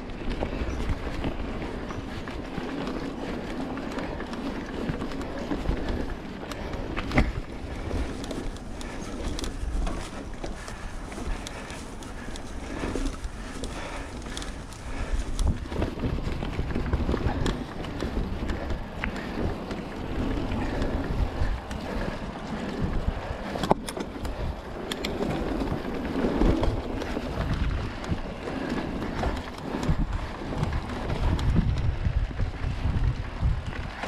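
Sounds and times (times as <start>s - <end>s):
bike clicks and rattles: 0.0s - 34.0s
tyres rumbling on dirt: 0.0s - 34.0s
wind buffeting microphone: 0.0s - 34.0s.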